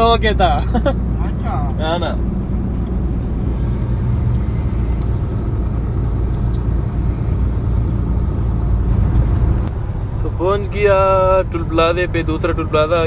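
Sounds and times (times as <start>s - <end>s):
road noise inside cab: 0.0s - 13.0s
truck engine rumble: 0.0s - 13.0s.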